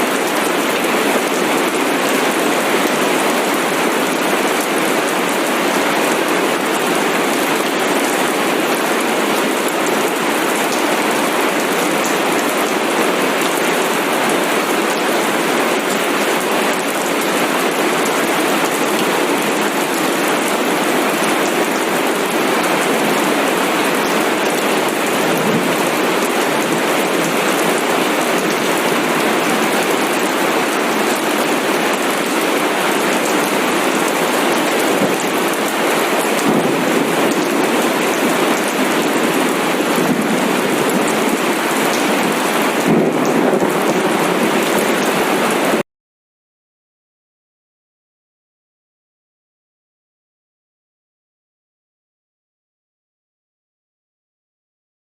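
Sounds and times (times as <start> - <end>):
steady rain falling: 0.0 - 45.8.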